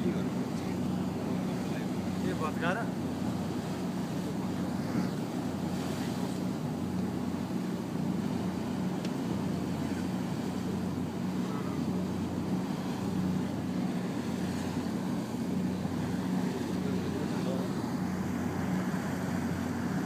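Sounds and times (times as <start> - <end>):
boat engine hum: 0.0 - 20.0.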